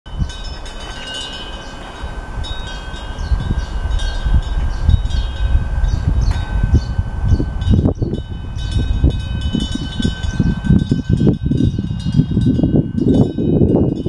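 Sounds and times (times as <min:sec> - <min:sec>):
wind bell ringing: 0:00.1 - 0:14.0
wind rumble on microphone: 0:00.1 - 0:14.0.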